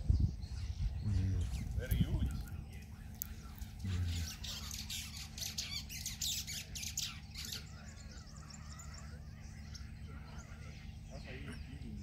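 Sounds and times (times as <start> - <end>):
bird harsh chattering calls: 0.5 - 12.0.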